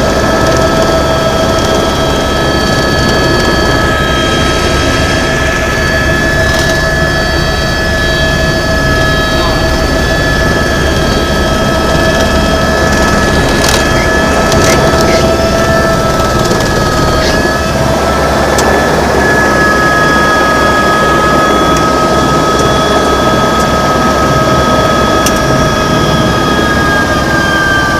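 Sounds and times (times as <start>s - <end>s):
helicopter rotor and turbine whine: 0.0s - 27.9s.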